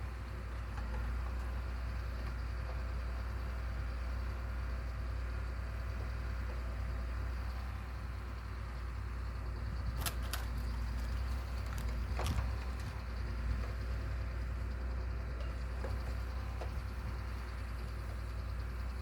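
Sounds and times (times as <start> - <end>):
machinery engine rumble: 0.0 - 19.0.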